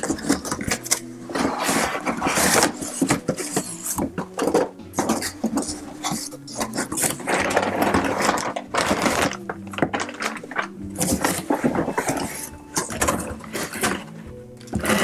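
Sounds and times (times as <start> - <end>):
cardboard scraping and rustling: 0.0 - 15.0
knocks and crinkles: 0.0 - 15.0.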